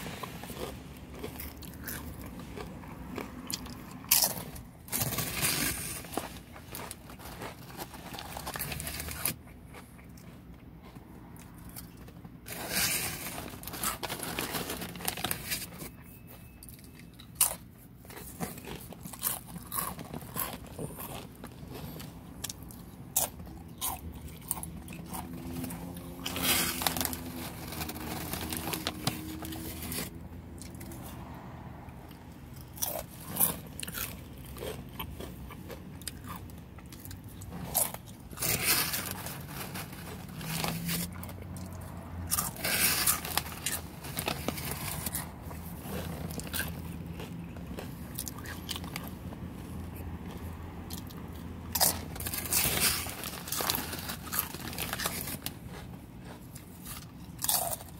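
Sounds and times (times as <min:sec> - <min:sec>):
chips crunching: 0:00.0 - 0:31.2, 0:32.1 - 0:57.9
quiet chewing: 0:06.2 - 0:12.8, 0:15.8 - 0:57.9.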